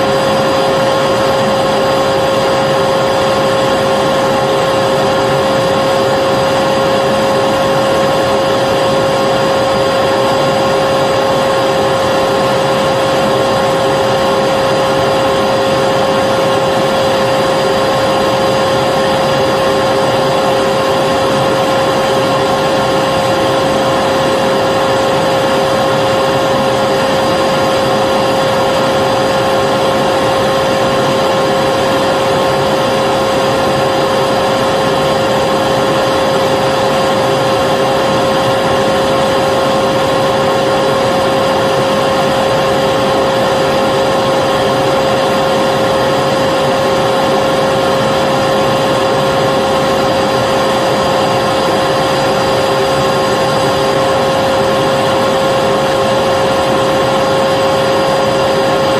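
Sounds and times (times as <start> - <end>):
vacuum cleaner motor whining: 0.0 - 58.9.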